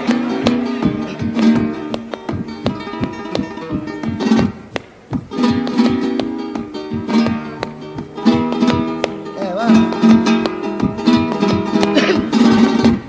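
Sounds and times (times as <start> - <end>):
flamenco guitar playing: 0.0 - 13.0.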